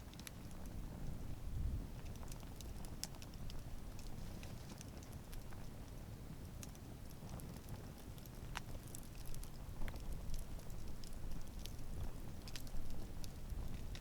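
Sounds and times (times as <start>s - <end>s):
burning wood crackling: 0.0s - 14.0s
low rumble of flames: 0.0s - 14.0s.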